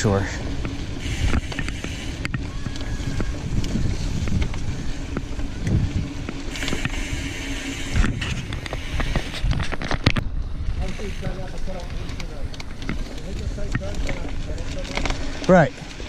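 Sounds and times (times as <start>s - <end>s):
bike clicks and rattles: 0.0s - 16.0s
bike tyres rolling on ground: 0.0s - 16.0s
wind buffeting microphone: 0.4s - 15.9s.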